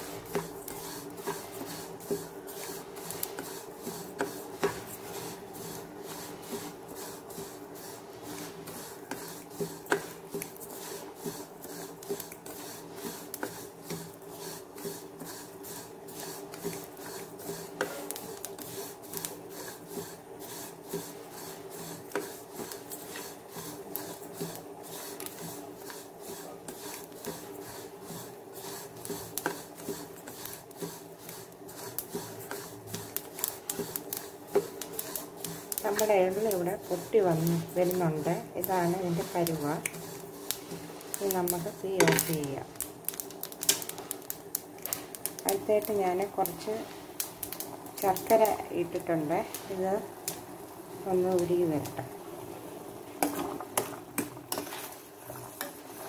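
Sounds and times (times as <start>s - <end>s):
stirring seeds in a pan: 0.0s - 56.0s.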